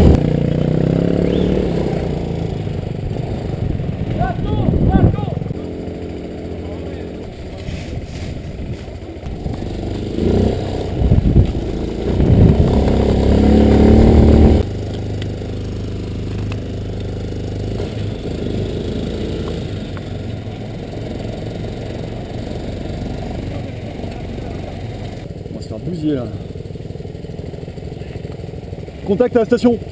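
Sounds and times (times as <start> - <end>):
buggy engine revving: 0.0 - 29.9.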